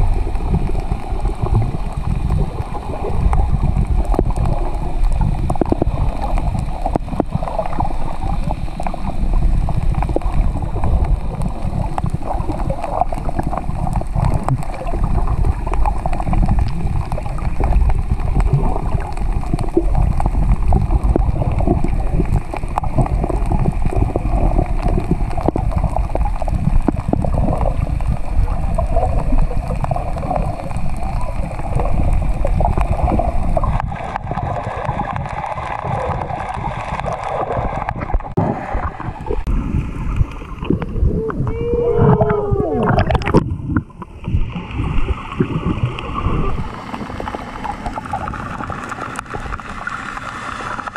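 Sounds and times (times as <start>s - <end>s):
muffled underwater water rushing: 0.0s - 50.9s.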